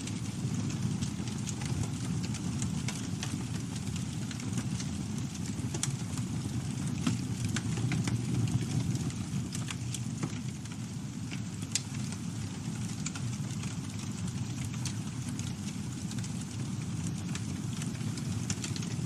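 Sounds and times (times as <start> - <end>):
burning wood crackling: 0.0 - 19.0
campfire flames rumbling: 0.0 - 19.0.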